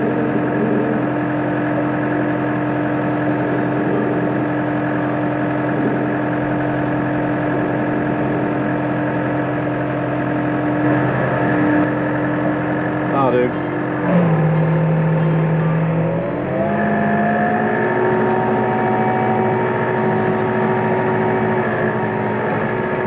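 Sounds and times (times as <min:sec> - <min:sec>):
hedge trimmer running: 0:00.0 - 0:23.0
tractor engine: 0:00.0 - 0:23.0.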